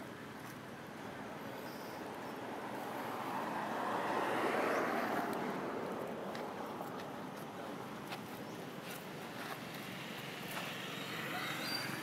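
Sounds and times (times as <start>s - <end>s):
passing vehicle rumble: 0.9s - 12.0s.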